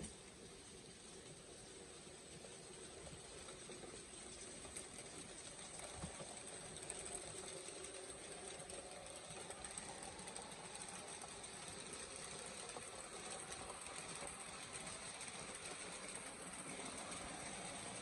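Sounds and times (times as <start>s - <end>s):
model trains whirring: 0.0s - 18.0s.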